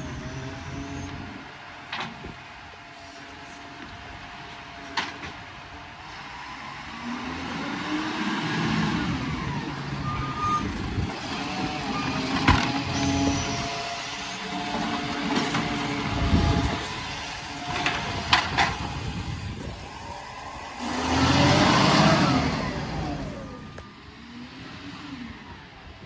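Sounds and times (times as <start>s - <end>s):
garbage truck diesel engine: 0.0s - 26.0s.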